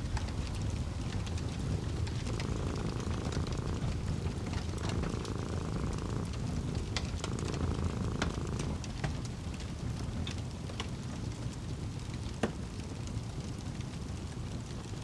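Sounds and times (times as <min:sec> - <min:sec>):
cat purring: 0:00.0 - 0:12.2
low background rush: 0:00.0 - 0:12.2
wood fire crackling: 0:00.0 - 0:15.0.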